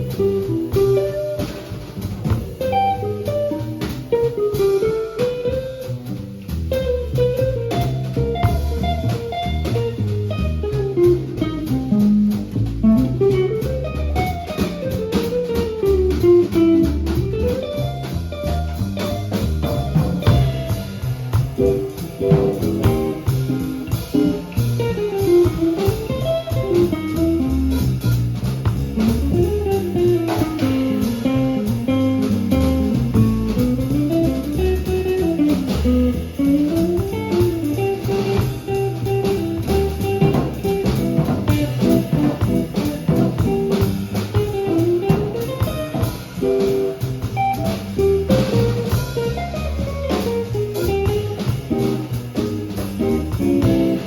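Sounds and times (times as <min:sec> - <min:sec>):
bass line: 0:00.0 - 0:54.0
jazz guitar runs: 0:00.0 - 0:54.0
light drum beat: 0:00.0 - 0:54.0.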